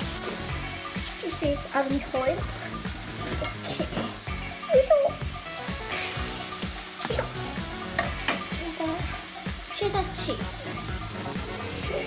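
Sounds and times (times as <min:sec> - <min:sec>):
hamburger patty sizzling: 0:00.0 - 0:12.0.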